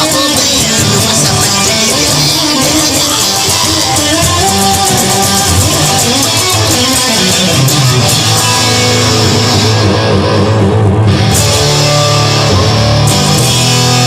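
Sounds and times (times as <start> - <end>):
rock music with loud guitar: 0.0 - 14.0.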